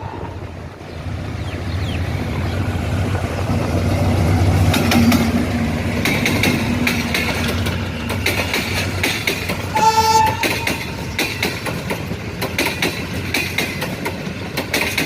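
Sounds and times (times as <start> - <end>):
train rumbling past: 0.0 - 15.0
train wheels clicking on rail joints: 1.5 - 15.0.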